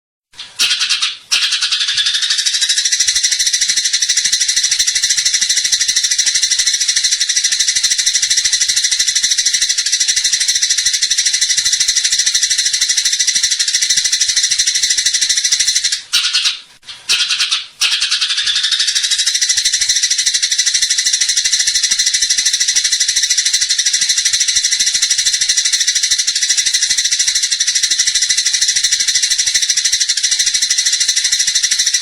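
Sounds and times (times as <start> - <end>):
bird chattering song: 0.6 - 32.0.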